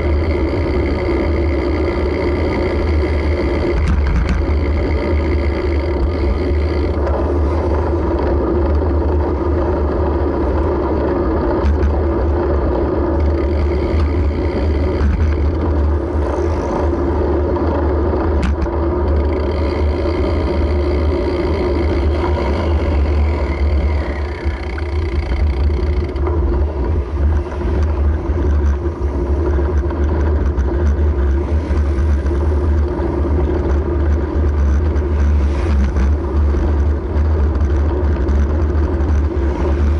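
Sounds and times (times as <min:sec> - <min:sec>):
steady tones: 0:00.0 - 0:39.9
vehicle riding rumble: 0:00.0 - 0:39.9.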